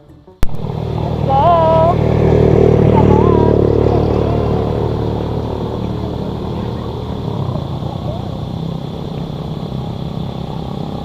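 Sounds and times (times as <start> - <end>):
passing vehicle engine: 0.0 - 11.0.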